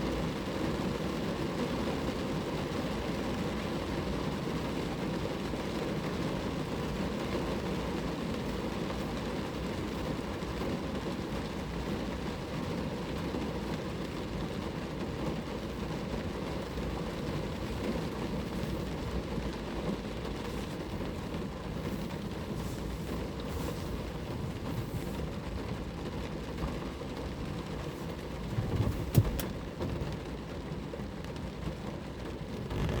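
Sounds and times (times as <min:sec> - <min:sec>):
rain falling on a car: 0:00.0 - 0:33.0.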